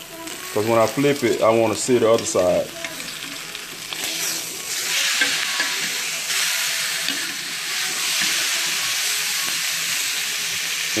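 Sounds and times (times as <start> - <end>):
steak sizzling in grill pan: 0.0 - 11.0.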